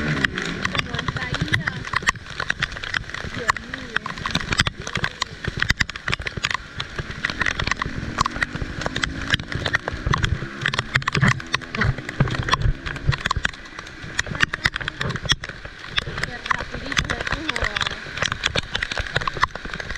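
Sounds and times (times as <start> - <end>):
low droning tone: 0.0 - 19.9
raindrops tapping: 0.0 - 19.9
rumble of rain and runoff: 0.0 - 19.9.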